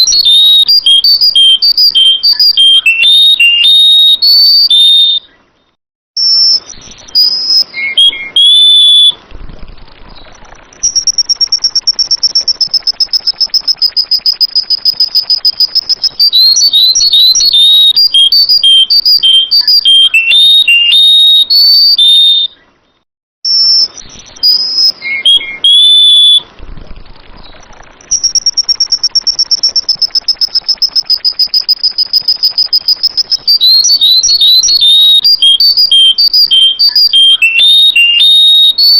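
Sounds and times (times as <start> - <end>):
high-pitched bird trill: 0.0 - 5.4, 6.2 - 9.2, 10.1 - 22.6, 23.5 - 26.6, 27.4 - 38.9
bird whistled song: 0.0 - 9.2, 10.1 - 26.6, 27.4 - 38.9.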